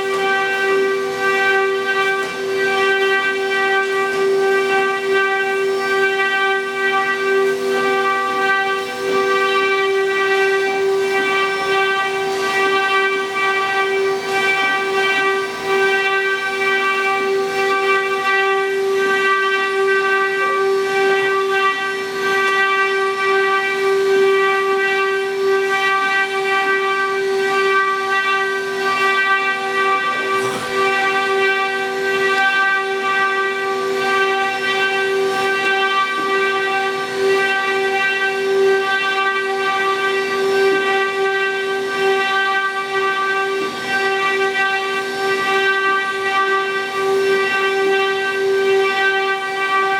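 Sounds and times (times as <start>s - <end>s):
router spindles whining: 0.0s - 20.1s, 20.7s - 49.9s.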